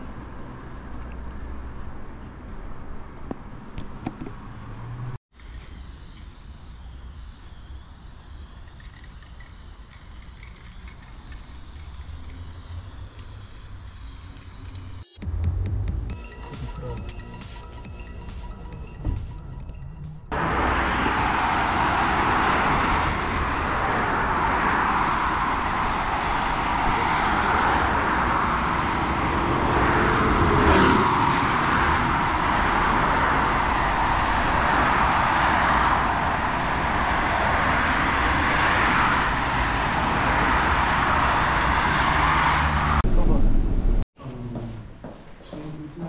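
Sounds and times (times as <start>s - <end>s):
traffic on a multi-lane road: 0.0s - 15.9s, 19.0s - 44.0s.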